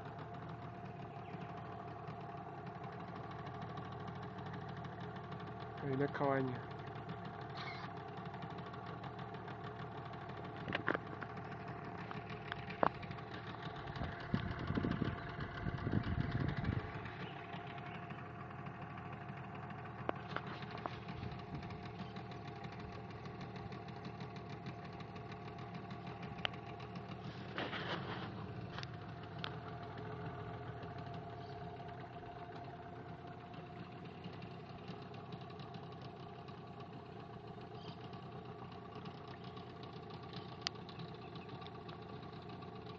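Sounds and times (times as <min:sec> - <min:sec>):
motorboat engine droning: 0:00.0 - 0:42.9.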